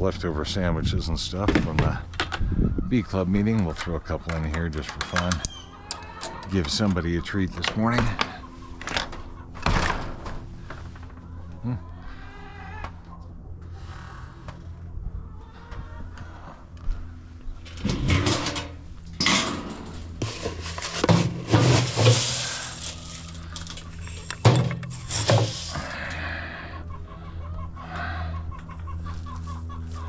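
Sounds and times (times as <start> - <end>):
steady low hum: 0.0 - 30.0
chickens clucking: 0.3 - 9.6, 10.5 - 30.0.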